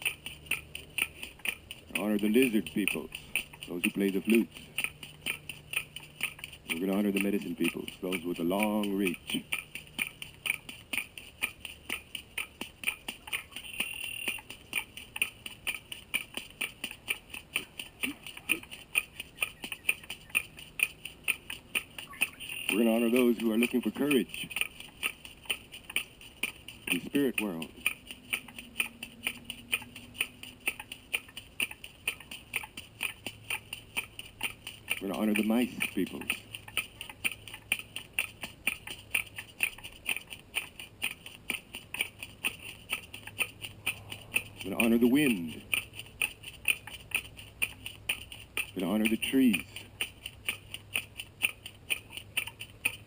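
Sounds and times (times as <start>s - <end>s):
hand percussion clicks: 0.0s - 53.0s.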